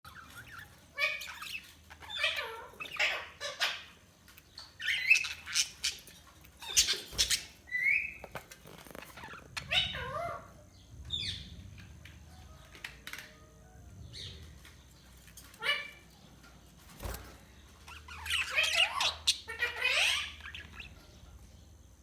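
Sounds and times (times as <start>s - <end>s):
budgerigars chirping and warbling: 0.1s - 12.0s, 14.0s - 22.0s.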